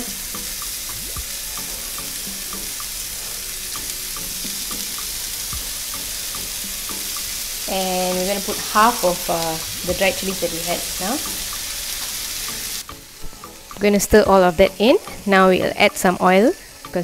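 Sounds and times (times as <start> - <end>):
hot oil sizzling in a frying pan: 0.0 - 17.0.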